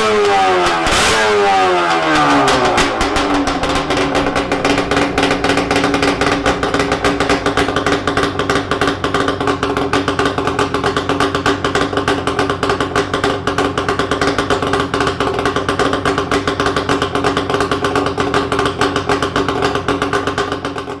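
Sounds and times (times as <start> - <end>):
two-stroke motorcycle engine popping: 0.0 - 21.0.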